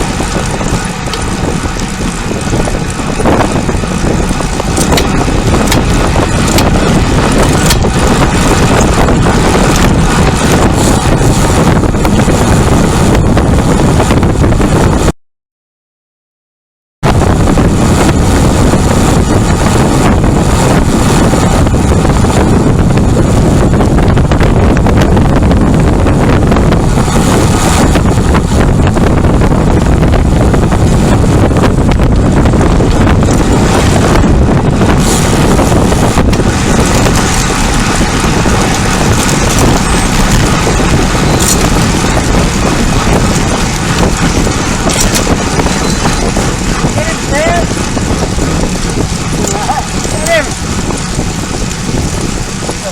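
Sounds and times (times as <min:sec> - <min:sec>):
wind buffeting microphone: 0:00.0 - 0:15.1, 0:17.0 - 0:52.9.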